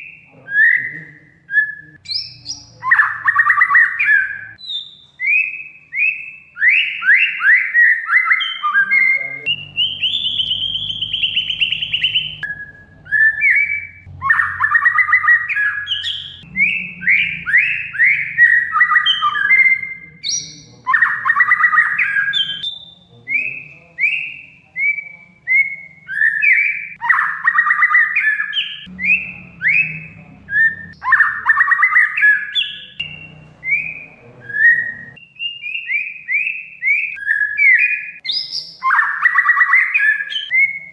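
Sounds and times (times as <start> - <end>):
bird singing whistled song: 0.0 - 40.9.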